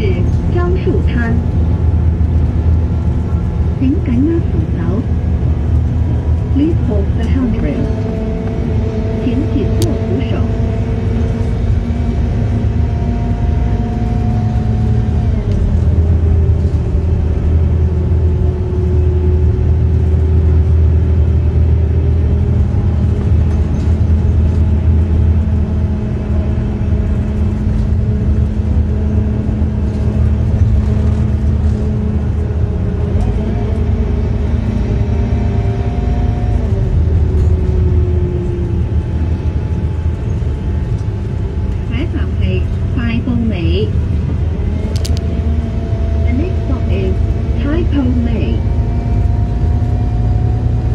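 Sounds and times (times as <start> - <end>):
bus diesel engine droning: 0.0 - 50.9.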